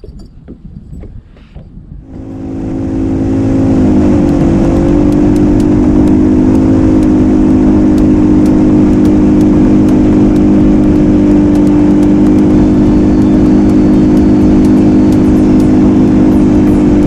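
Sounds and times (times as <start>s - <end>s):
outboard motor running: 1.5s - 17.0s.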